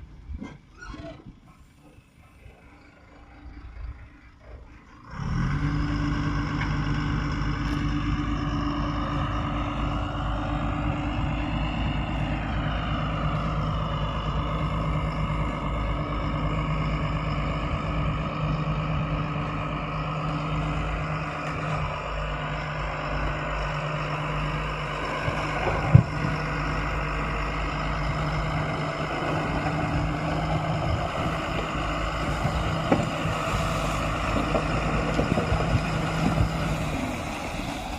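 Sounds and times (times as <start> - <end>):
diesel engine running under work: 0.0 - 37.9.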